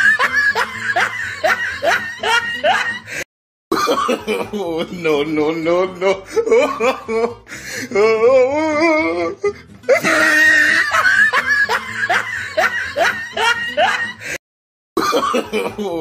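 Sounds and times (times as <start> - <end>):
person laughing: 0.0 - 5.3, 5.9 - 14.4, 15.0 - 16.0.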